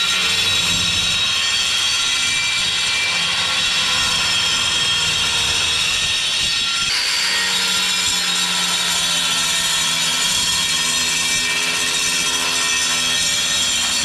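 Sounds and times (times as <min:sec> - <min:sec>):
angle grinder cutting tiles: 0:00.0 - 0:14.0
grinder motor whine: 0:00.0 - 0:14.0.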